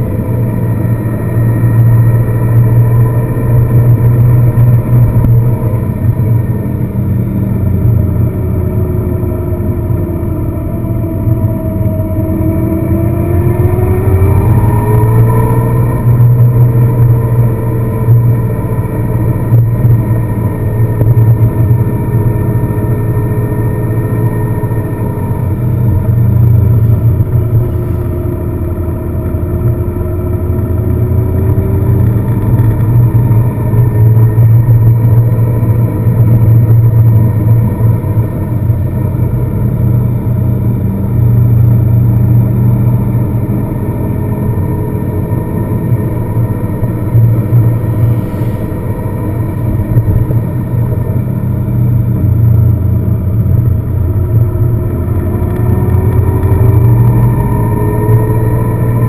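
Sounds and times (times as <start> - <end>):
car engine and road drone: 0.0 - 59.0.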